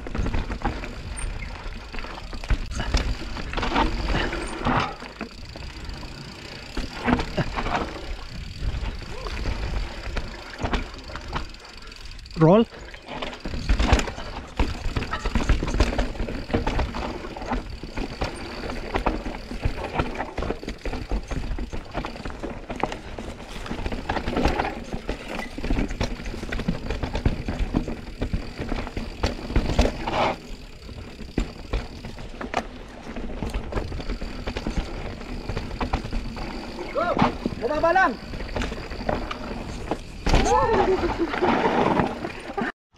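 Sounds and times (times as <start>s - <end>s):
bike rattling and knocking: 0.0s - 42.7s
bike tyres rolling over dirt: 0.0s - 42.7s.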